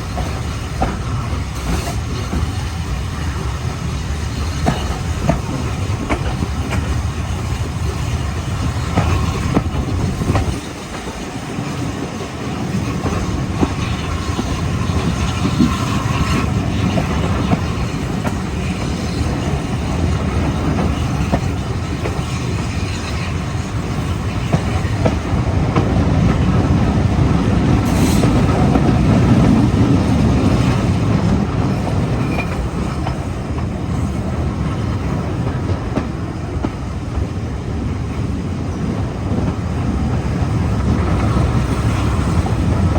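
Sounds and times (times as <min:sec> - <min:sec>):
train wheel squeal: 0:00.0 - 0:42.9
train wheels rumbling on rail: 0:00.0 - 0:42.9.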